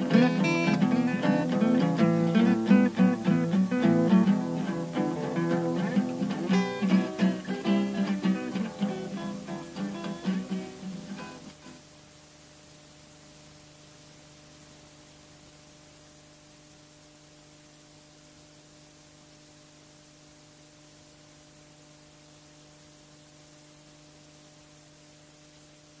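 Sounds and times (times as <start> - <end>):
low electrical hum: 0.0 - 26.0
steady hiss: 0.0 - 26.0.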